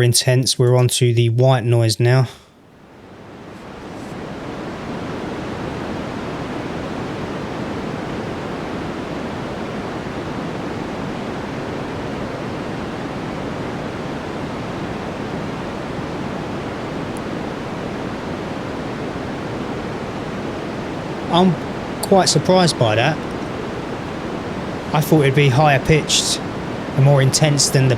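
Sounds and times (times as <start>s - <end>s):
white noise hiss: 0.0s - 27.9s.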